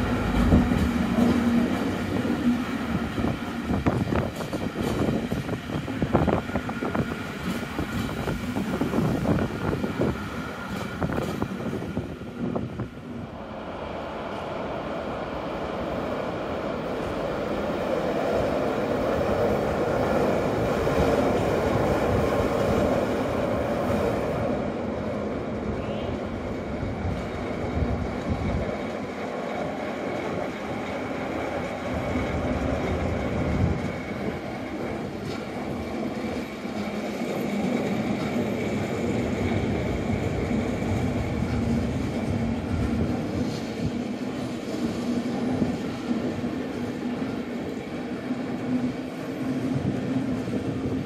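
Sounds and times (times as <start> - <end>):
passenger train rumbling past: 0.0 - 51.0.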